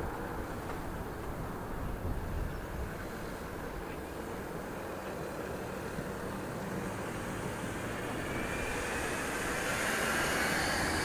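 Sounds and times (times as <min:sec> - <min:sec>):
passing vehicle engine rumble: 0:00.0 - 0:11.0.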